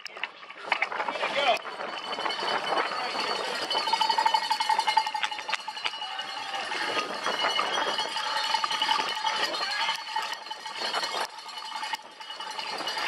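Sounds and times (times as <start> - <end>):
bike rattling on grass: 0.0 - 13.0
cowbells clanging: 0.2 - 13.0.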